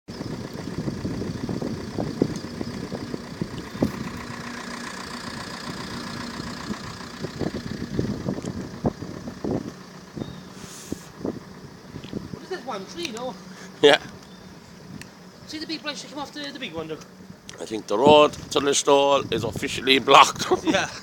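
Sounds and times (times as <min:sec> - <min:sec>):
car engine running: 0:00.1 - 0:21.0.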